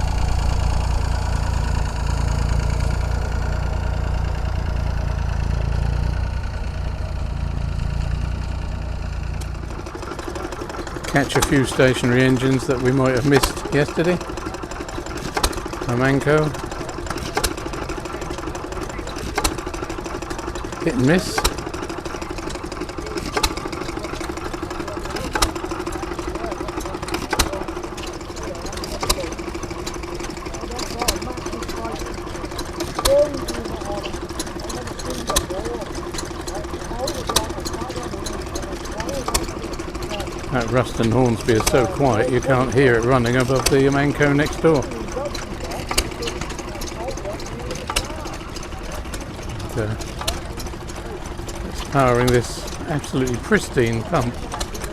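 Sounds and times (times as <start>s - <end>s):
engine droning: 0.0s - 54.9s
pulsing mechanical hum: 0.0s - 54.9s.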